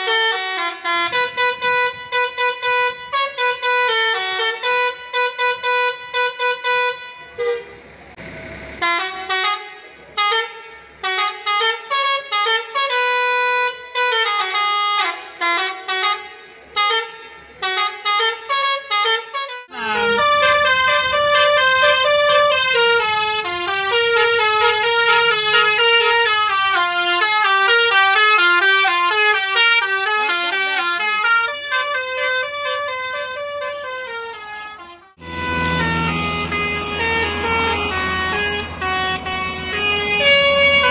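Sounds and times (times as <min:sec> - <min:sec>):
musical air horn playing a tune: 0:00.0 - 0:07.8, 0:08.8 - 0:40.9.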